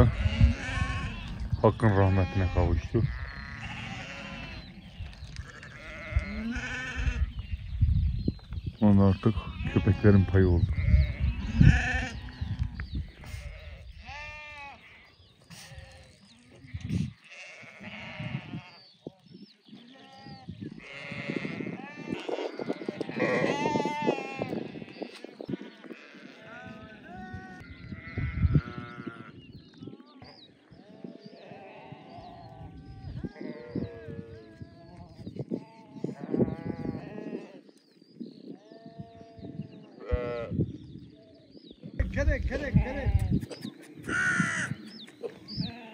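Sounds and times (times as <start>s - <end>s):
sheep bleating: 0.0s - 7.3s, 9.4s - 18.8s, 19.9s - 30.3s, 30.9s - 37.7s, 38.6s - 40.6s, 42.0s - 43.4s, 44.1s - 44.8s, 45.6s - 45.9s.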